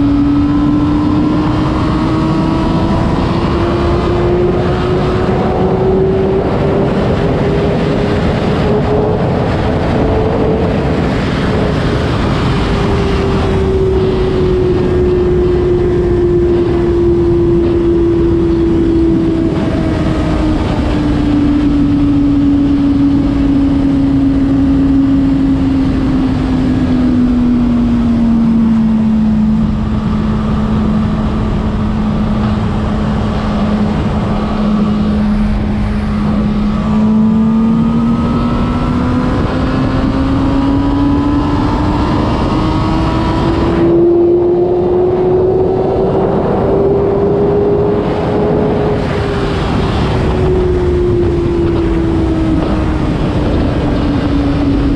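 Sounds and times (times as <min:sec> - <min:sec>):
motorcycle engine running: 0:00.0 - 0:54.9
wind rush: 0:00.0 - 0:54.9.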